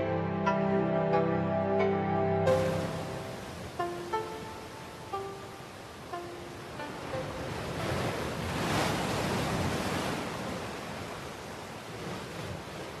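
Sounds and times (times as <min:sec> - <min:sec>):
waves breaking: 0:02.4 - 0:13.0.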